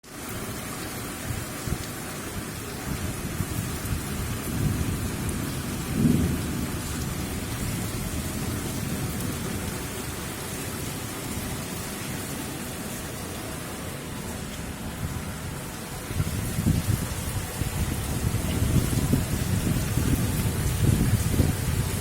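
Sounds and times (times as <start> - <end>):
steady rain: 0.0 - 22.0
thunder rumble: 2.8 - 13.0, 13.7 - 22.0.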